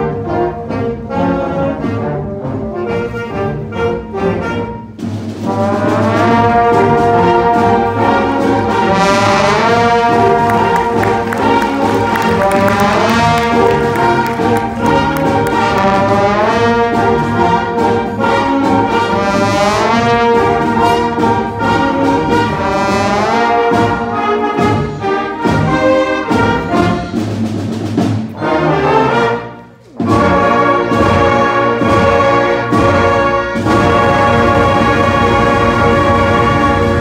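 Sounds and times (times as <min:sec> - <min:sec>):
concert band playing: 0:00.0 - 0:37.0.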